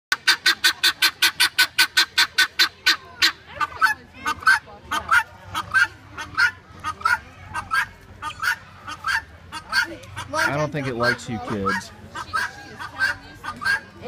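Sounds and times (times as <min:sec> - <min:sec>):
guineafowl alarm calls: 0:00.1 - 0:14.0.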